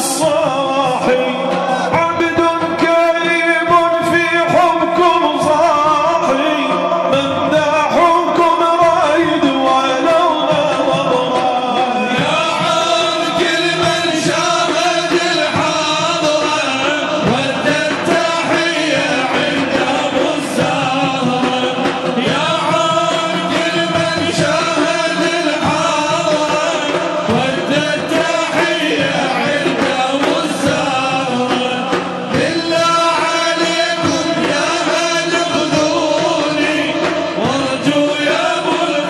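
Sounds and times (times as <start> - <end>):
frame drum beating: 0.0 - 39.0
men singing through microphones: 0.0 - 39.0.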